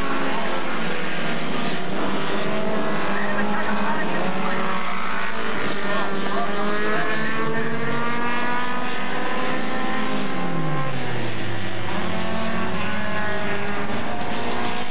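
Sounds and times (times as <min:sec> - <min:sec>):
race car engines: 0:00.0 - 0:14.9
race car passing by: 0:00.0 - 0:14.9.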